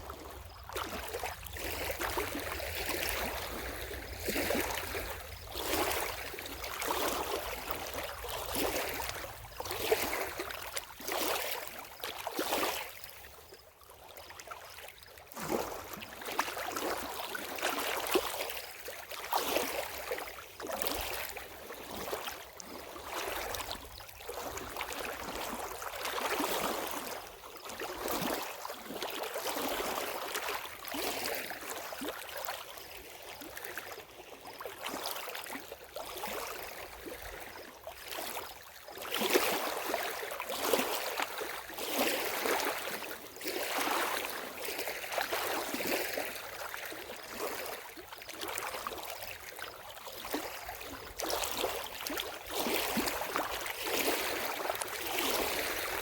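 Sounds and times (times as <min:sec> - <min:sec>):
lake water lapping at shore: 0:00.0 - 0:56.0.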